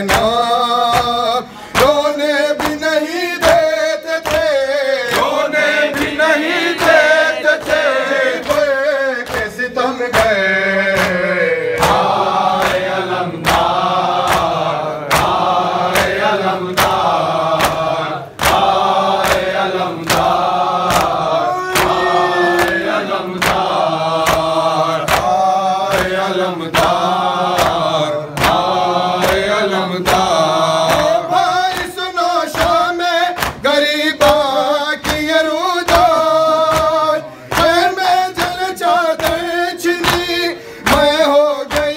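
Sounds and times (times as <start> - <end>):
men chanting in unison: 0.0 - 41.9
rhythmic chest-beating strikes: 0.0 - 41.9.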